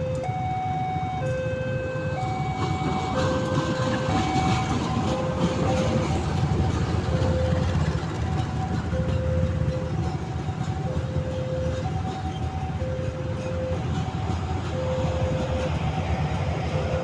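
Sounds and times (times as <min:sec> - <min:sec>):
level crossing two-tone alarm: 0:00.0 - 0:17.0
passing train rumble: 0:00.0 - 0:17.0.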